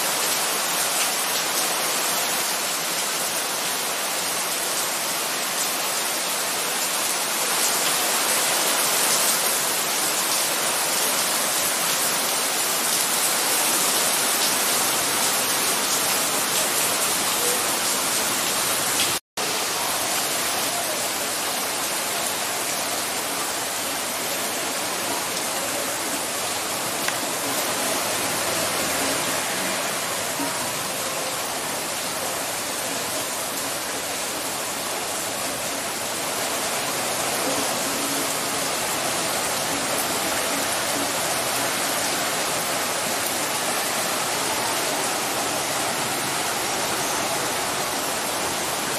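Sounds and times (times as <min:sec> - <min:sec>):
heavy rain falling: 0:00.0 - 0:48.9
runoff water rushing: 0:00.0 - 0:48.9.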